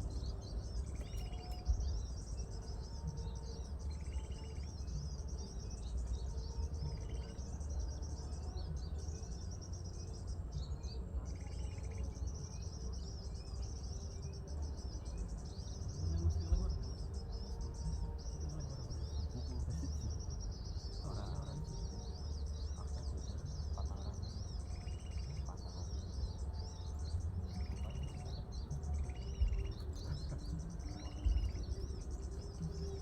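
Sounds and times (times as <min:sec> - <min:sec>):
small birds twittering: 0:00.0 - 0:33.0.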